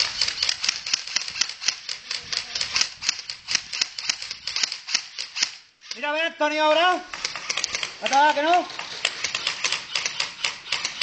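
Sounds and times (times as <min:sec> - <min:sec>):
rapid sharp clicks: 0:00.0 - 0:06.0, 0:07.1 - 0:11.0.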